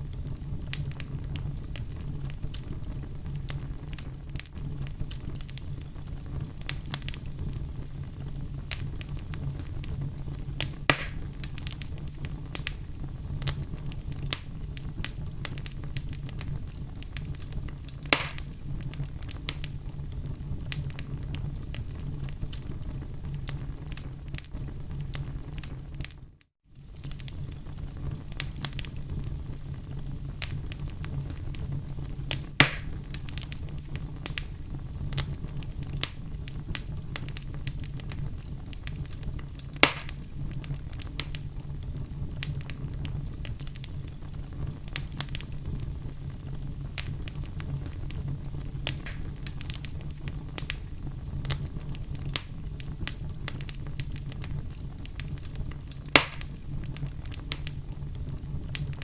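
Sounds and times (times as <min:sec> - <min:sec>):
fire pops: 0:00.0 - 0:59.0
wood fire crackling: 0:00.0 - 0:59.0.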